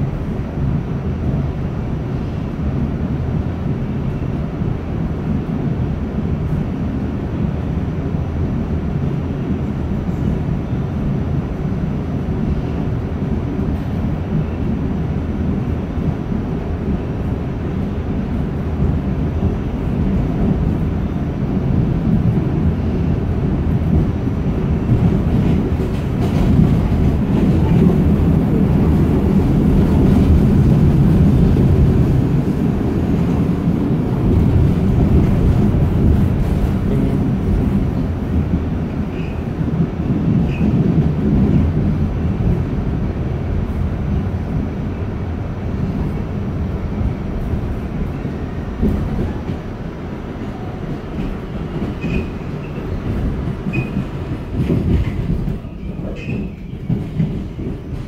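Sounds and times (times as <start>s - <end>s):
subway train rumbling: 0.0s - 58.0s.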